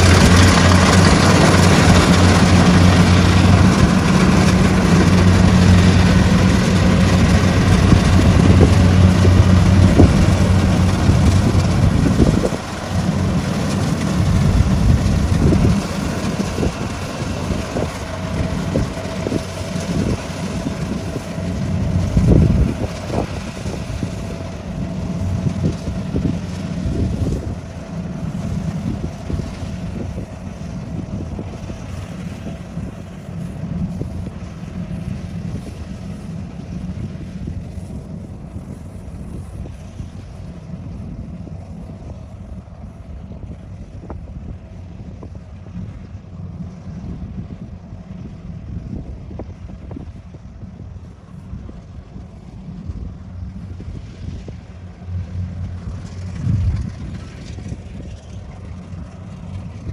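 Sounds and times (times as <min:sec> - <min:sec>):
combine harvester engine hum: 0:00.0 - 0:59.9.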